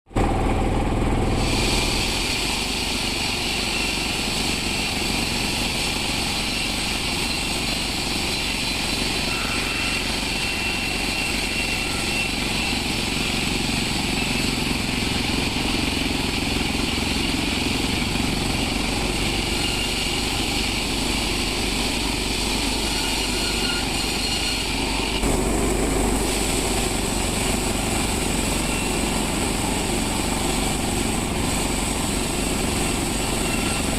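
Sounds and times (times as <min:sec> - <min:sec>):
high machine whine: 0:00.1 - 0:33.9
sawmill machinery drone: 0:00.1 - 0:33.9.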